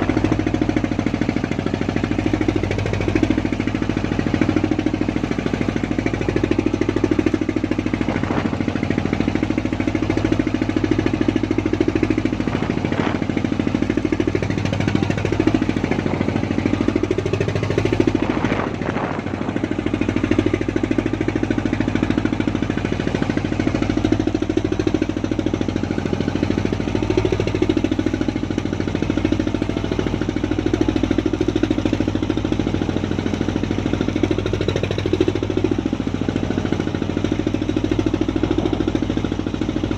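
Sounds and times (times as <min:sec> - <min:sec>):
boat engine knocking: 0:00.0 - 0:39.9.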